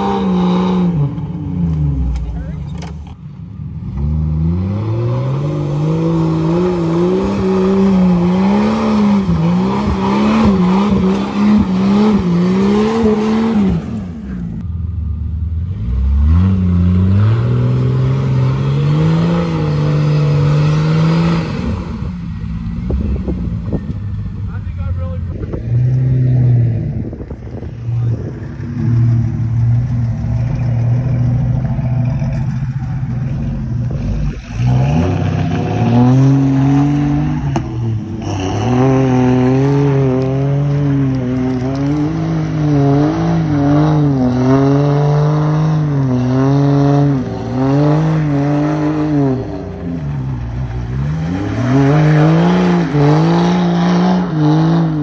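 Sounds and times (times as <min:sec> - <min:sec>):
suv engine revving: 0:00.0 - 0:55.0.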